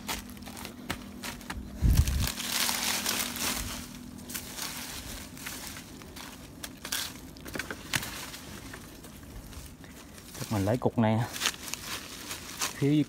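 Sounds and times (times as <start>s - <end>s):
dry leaves and twigs rustling: 0.0s - 13.0s.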